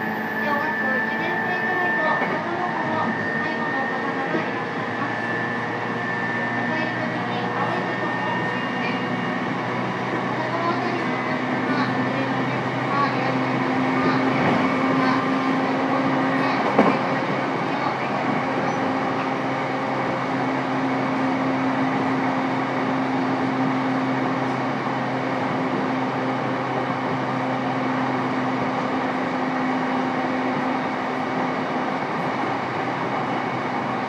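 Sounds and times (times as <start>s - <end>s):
electric train motor hum: 0.0s - 34.0s.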